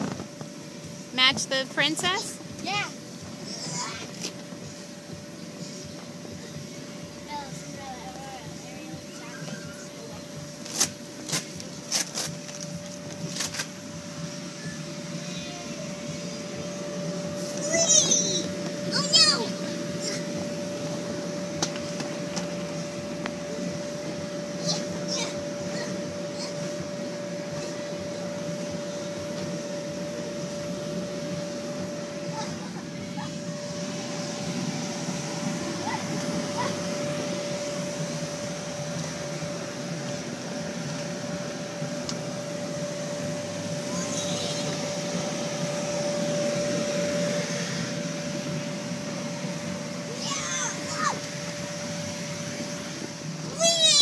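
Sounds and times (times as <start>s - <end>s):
electric blower humming: 0.0s - 54.0s.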